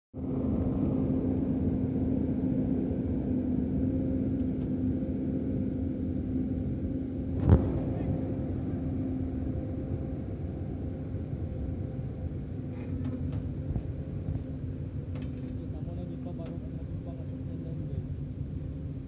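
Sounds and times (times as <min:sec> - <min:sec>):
truck engine humming: 0:00.2 - 0:19.0.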